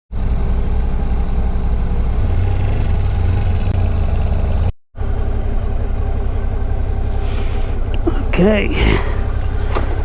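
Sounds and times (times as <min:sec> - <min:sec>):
motorcycle engine idling: 0:00.2 - 0:10.0.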